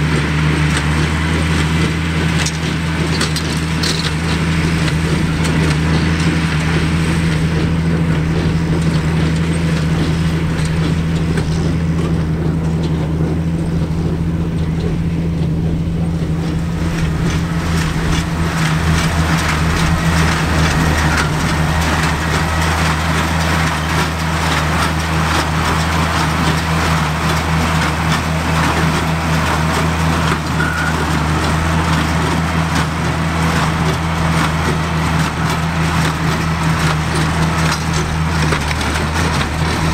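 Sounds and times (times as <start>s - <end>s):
baler mechanical clatter: 0.0s - 39.9s
tractor engine running under load: 0.0s - 39.9s.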